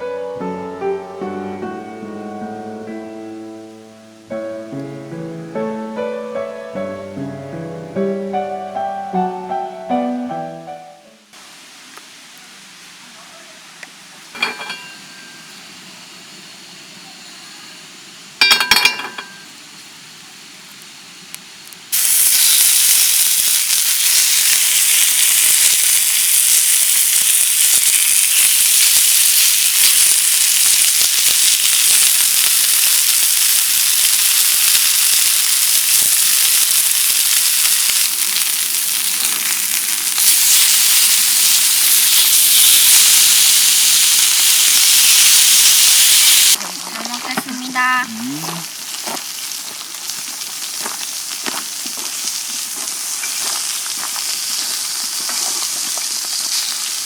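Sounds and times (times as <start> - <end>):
food sizzling in a pan: 10.7 - 57.0.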